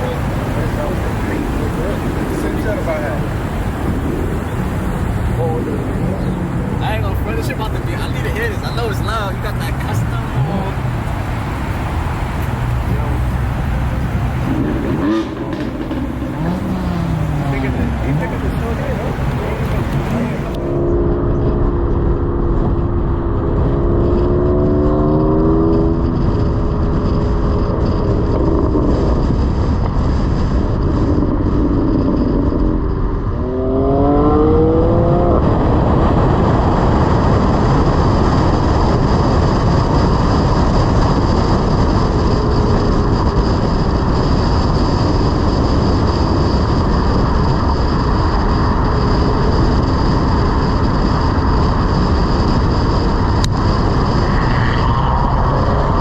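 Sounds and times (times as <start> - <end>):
car engine revving: 0.0 - 56.0
road noise: 0.0 - 56.0.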